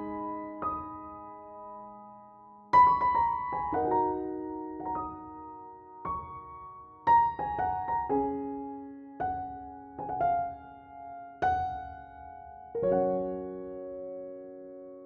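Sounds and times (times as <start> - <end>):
slow soft solo piano: 0.0 - 15.0.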